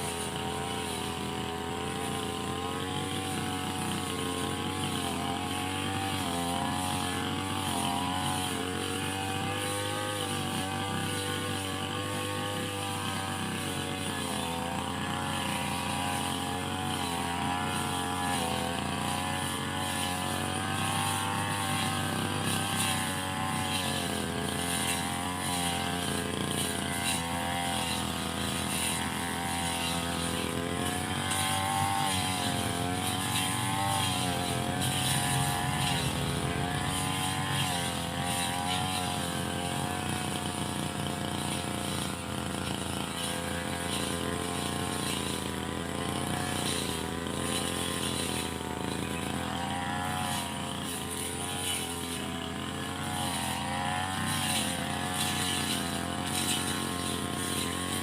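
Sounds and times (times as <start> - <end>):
brush cutter engine running: 0.0 - 58.0.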